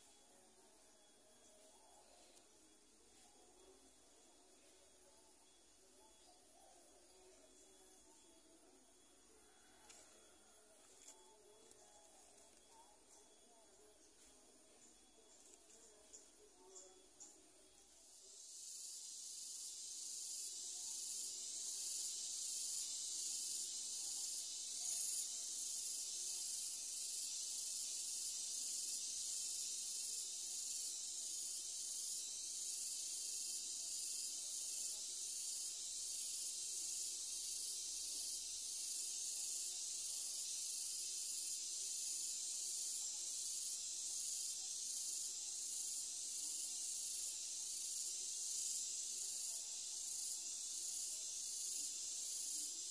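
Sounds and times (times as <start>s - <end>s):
insect chorus pulsing: 0.0s - 52.9s.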